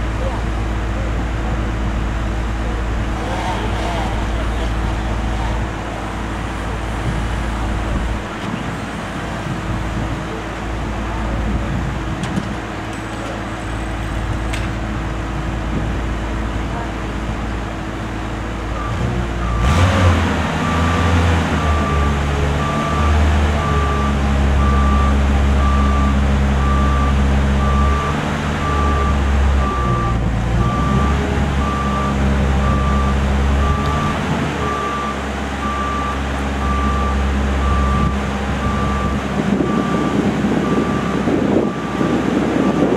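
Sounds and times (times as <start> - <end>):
lift engine running: 0.0 - 42.9.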